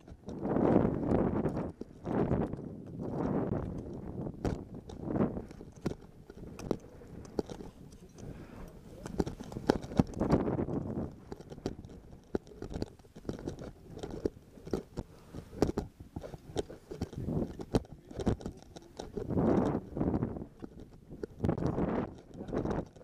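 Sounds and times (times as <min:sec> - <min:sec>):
wind on microphone: 0:00.0 - 0:23.0.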